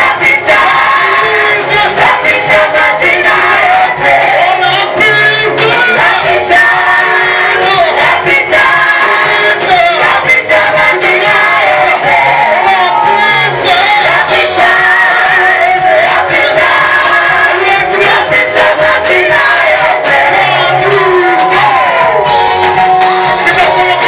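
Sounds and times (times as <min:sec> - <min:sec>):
instrumental accompaniment: 0:00.0 - 0:24.0
voices singing a worship song: 0:00.0 - 0:24.0.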